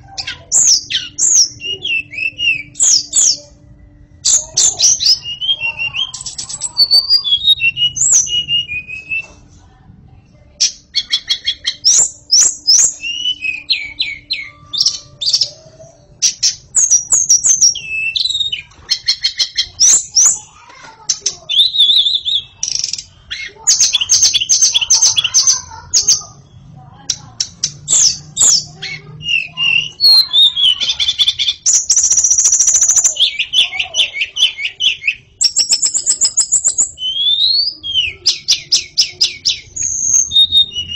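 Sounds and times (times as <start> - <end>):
songbird whistling song: 0.0 - 9.5, 10.6 - 40.9.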